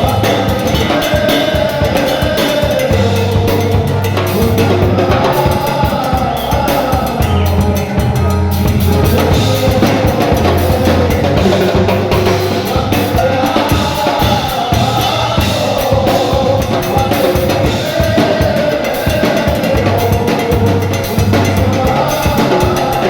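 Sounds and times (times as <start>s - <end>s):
band playing music: 0.0s - 23.0s
drum kit: 0.0s - 23.0s
steady bass notes: 0.0s - 23.0s.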